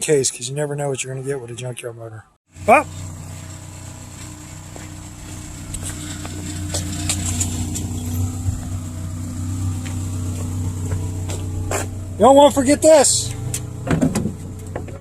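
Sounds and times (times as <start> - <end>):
motor humming: 2.6 - 15.0.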